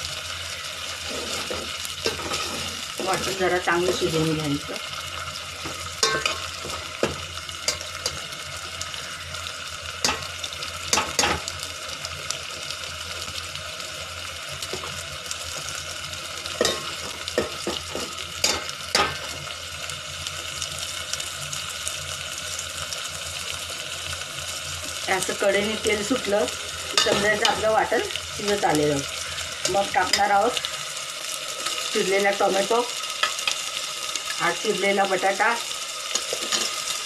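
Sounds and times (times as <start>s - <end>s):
paste sizzling in oil: 0.0s - 37.0s.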